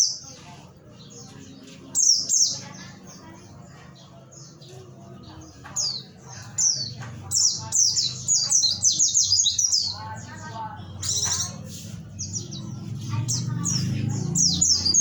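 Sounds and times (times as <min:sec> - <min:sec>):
bird singing chattering phrases: 0:00.0 - 0:15.0.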